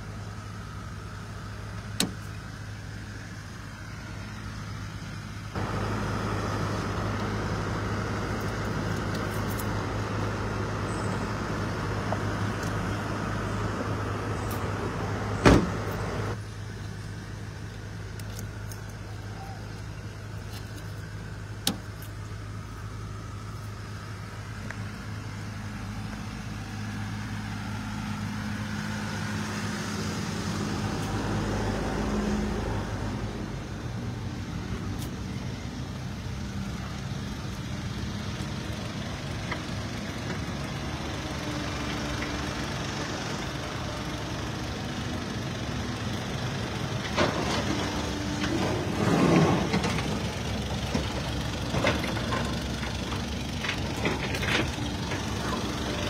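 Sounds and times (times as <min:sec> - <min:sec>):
heavy machinery engine running: 0:00.0 - 0:20.4, 0:21.0 - 0:56.0.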